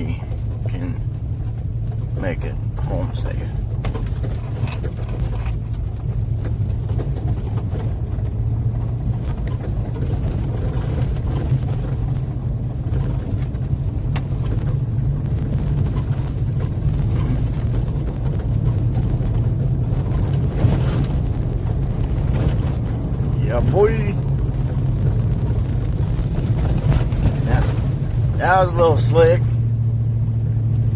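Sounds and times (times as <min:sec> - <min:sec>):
road noise: 0:00.0 - 0:30.9
vehicle engine drone: 0:00.0 - 0:30.9.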